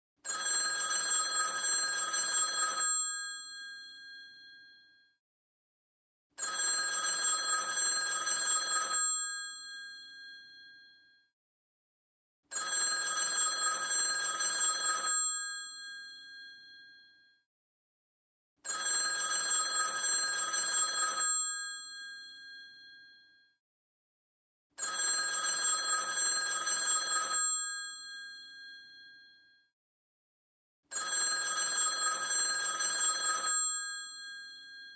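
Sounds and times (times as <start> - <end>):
telephone bell ringing: 0.2 - 5.2, 6.4 - 11.2, 12.5 - 17.4, 18.6 - 23.4, 24.8 - 29.5, 30.9 - 34.9.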